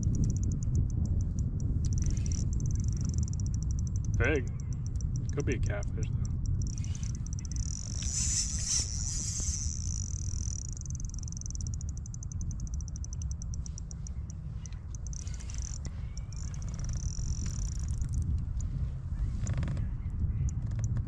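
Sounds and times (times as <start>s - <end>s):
fishing reel drag buzzing: 0.0s - 19.8s
rapid reel clicks: 0.0s - 21.0s.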